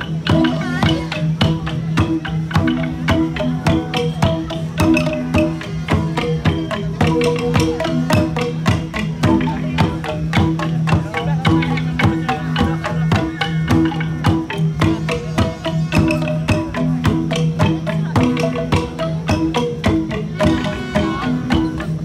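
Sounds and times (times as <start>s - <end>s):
gong ensemble playing: 0.0s - 22.0s.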